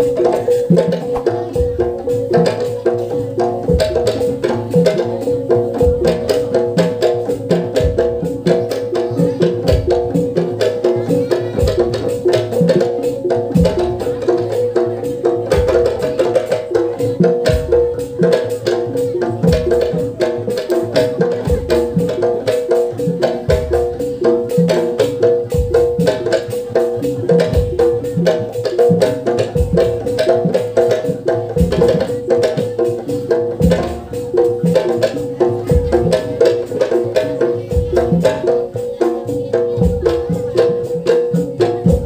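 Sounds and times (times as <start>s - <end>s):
fast dense drumming: 0.0s - 42.0s.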